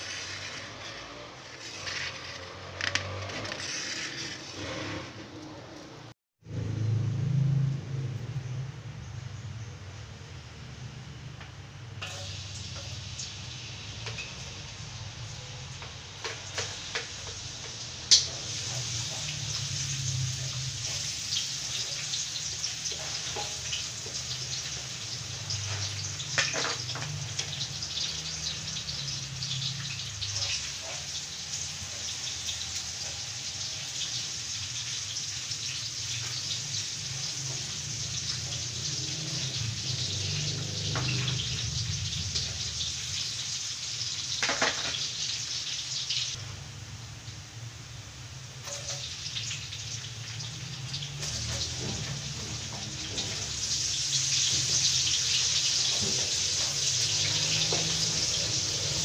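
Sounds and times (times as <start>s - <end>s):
garlic sizzling in hot oil: 0.0s - 4.8s, 12.0s - 59.0s.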